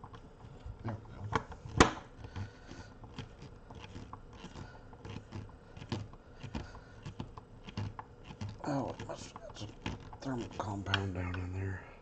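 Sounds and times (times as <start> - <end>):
light scrapes and small taps: 0.0 - 11.5.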